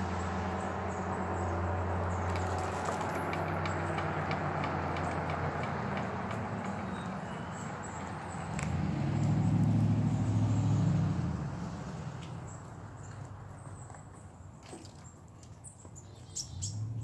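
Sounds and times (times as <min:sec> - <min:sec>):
vehicle passing by: 0:00.0 - 0:13.6, 0:16.5 - 0:17.0.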